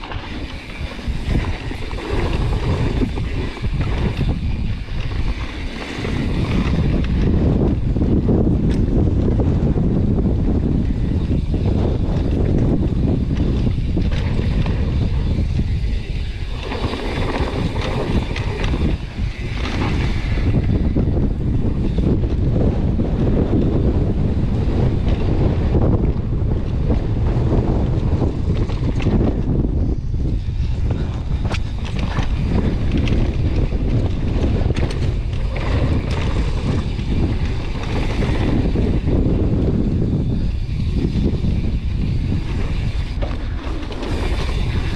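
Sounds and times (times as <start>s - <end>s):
mountain bike clicks and rattles: 0.0s - 44.9s
wind buffeting microphone: 0.0s - 44.9s.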